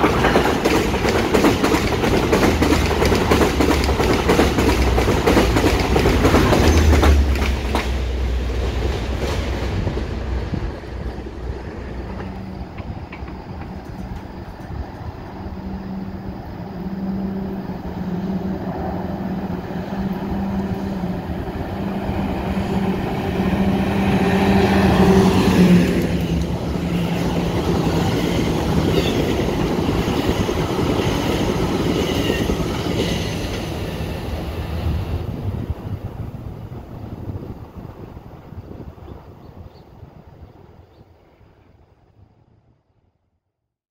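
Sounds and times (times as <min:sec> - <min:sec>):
diesel locomotive engine hum: 0:00.0 - 0:40.8
wheel and rail noise: 0:00.0 - 0:42.5.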